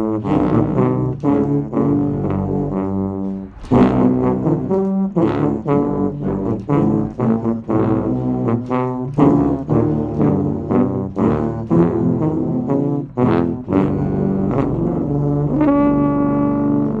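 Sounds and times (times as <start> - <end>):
brass ensemble playing: 0.0 - 17.0.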